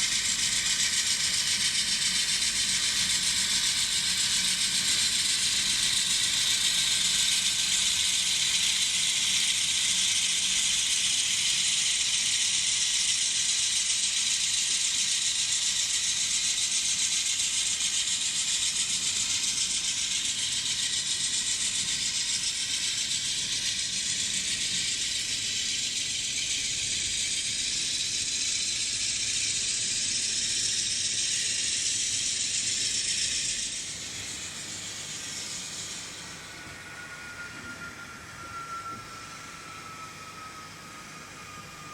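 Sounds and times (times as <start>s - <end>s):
model locomotive mechanical rattle: 0.0s - 36.7s.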